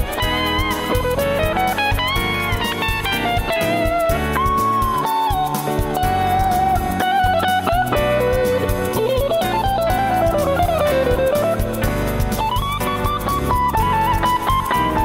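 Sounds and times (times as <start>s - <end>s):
backing track with bass: 0.0s - 15.0s
electric guitar lead line: 0.0s - 15.0s.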